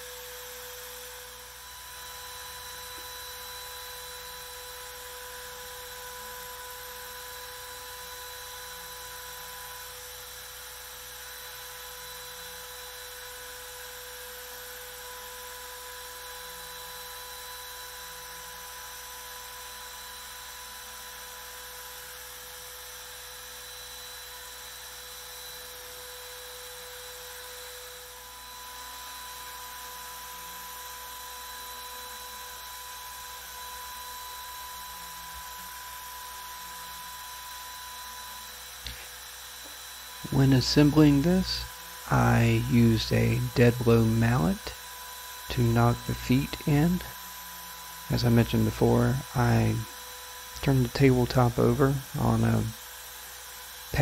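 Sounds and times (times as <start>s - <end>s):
router spindle whining: 0.0s - 54.0s.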